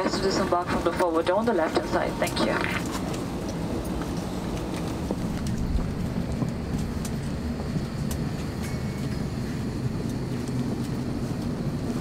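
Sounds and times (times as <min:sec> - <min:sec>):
vehicle interior rumble: 0:00.0 - 0:12.0.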